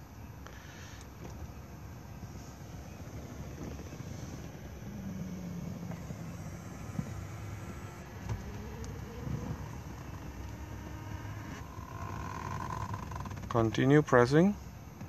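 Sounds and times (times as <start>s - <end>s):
electric seat motor humming: 0.0s - 15.0s.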